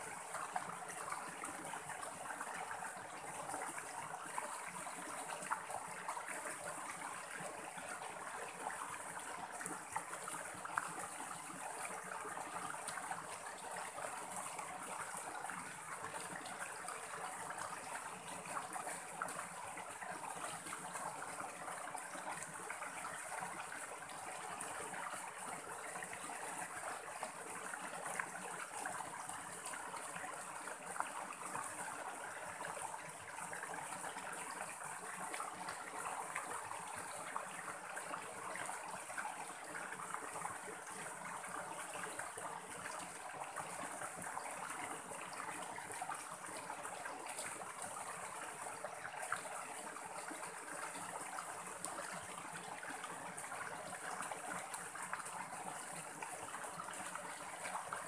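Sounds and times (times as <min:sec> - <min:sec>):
stream running over boulders: 0:00.0 - 0:58.0.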